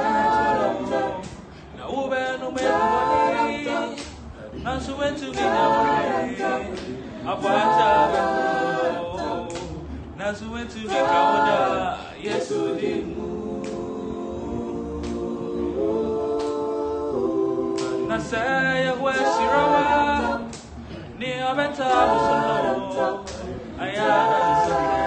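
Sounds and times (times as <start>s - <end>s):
small vocal group singing a cappella: 0.0s - 25.0s.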